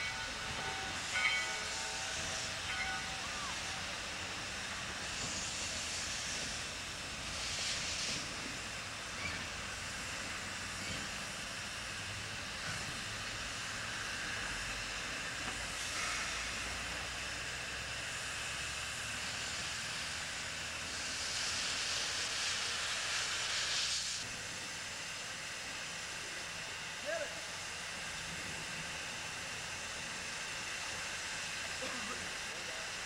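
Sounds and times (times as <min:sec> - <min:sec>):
steam locomotive hissing: 0:00.0 - 0:33.0.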